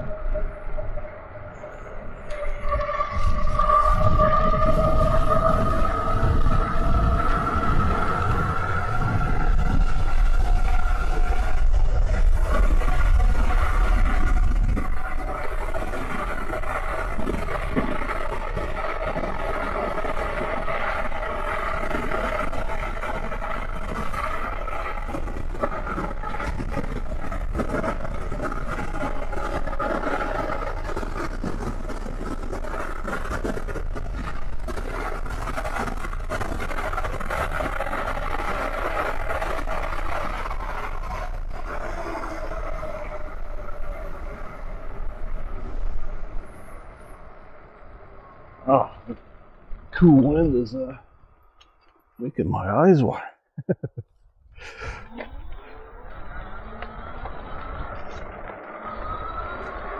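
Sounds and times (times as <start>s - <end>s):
electric bike motor whine: 0.0s - 32.7s, 33.3s - 48.6s, 55.0s - 59.9s
wind buffeting microphone: 0.0s - 51.7s
tyre noise on pavement: 2.4s - 48.2s, 54.8s - 59.9s.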